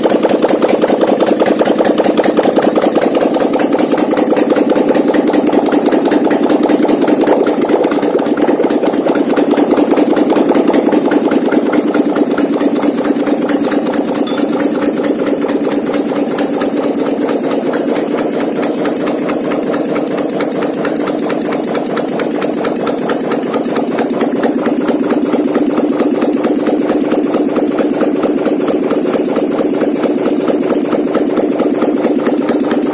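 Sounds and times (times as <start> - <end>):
atv engine idling: 0.0 - 32.9.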